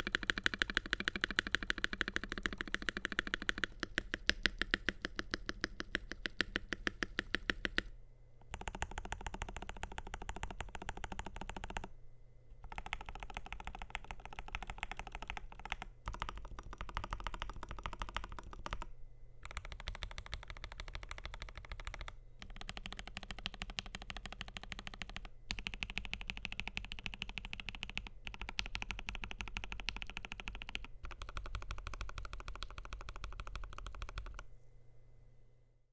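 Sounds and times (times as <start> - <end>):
mechanical keyboard typing: 0.0 - 11.9, 12.6 - 34.5.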